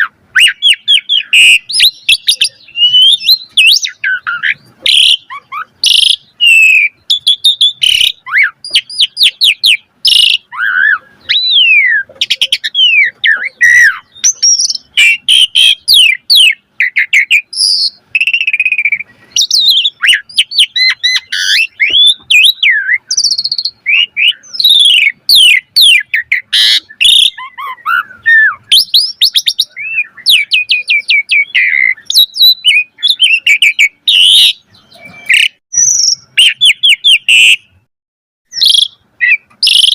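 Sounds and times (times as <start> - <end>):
starling singing: 0.0 - 37.9, 38.5 - 39.9.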